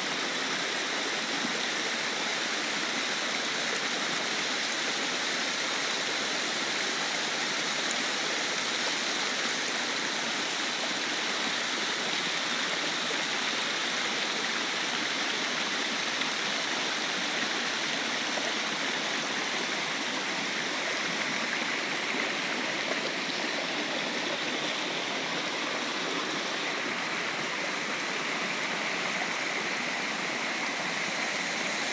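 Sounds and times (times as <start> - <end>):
water rushing over rocks: 0.0 - 31.9.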